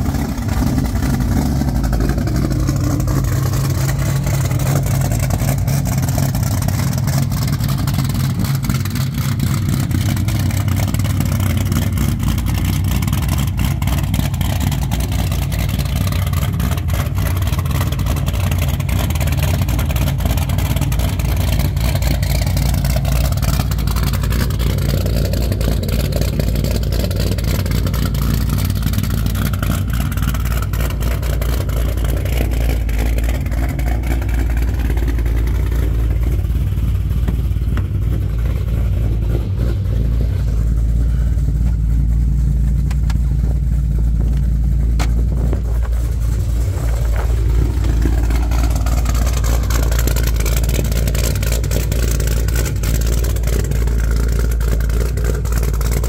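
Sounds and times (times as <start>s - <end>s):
car engine idling choppily: 0.0s - 56.0s.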